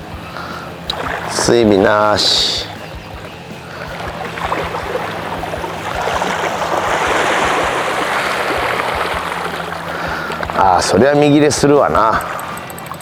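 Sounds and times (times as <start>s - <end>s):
rushing splashing water: 0.9s - 13.0s.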